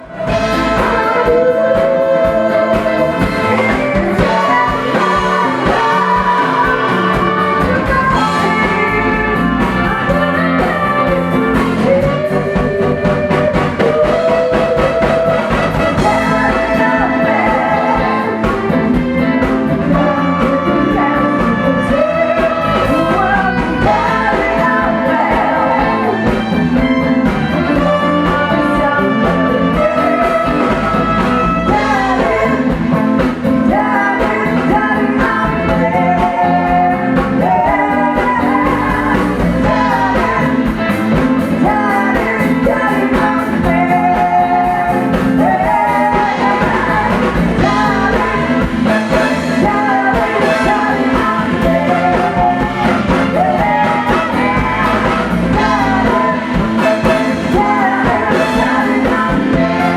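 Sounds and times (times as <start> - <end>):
rock and roll band playing: 0.0 - 59.9
woman singing: 0.0 - 59.9.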